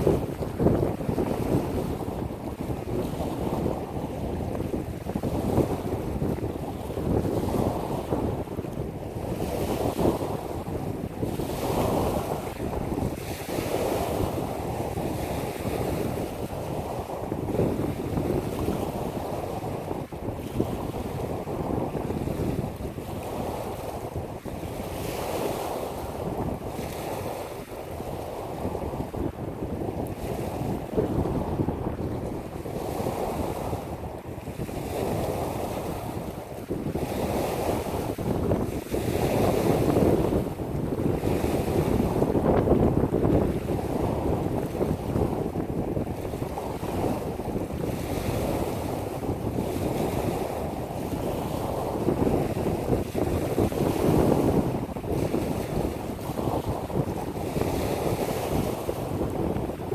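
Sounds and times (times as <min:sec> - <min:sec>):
waves washing onto pebble beach: 0:00.0 - 0:59.9
wind buffeting microphone: 0:00.0 - 0:59.9.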